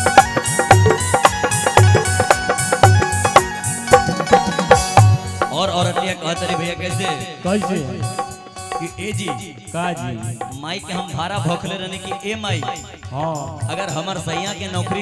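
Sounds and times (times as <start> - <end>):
tabla drum beat: 0.0 - 15.0.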